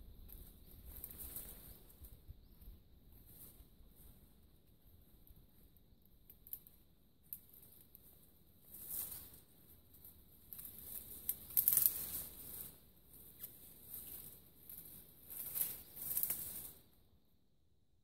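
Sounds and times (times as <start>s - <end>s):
twigs and dry leaves rustling: 0.1s - 16.9s.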